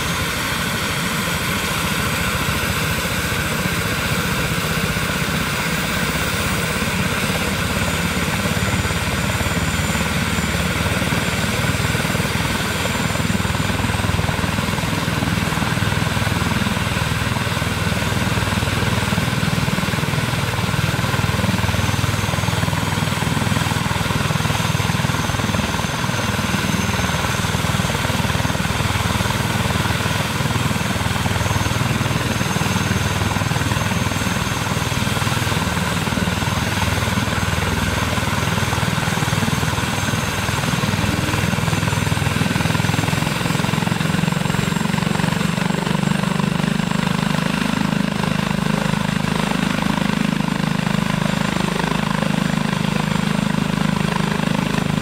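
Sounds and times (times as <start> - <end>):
helicopter rotor noise: 0.0 - 55.0
turbine whine: 0.0 - 55.0.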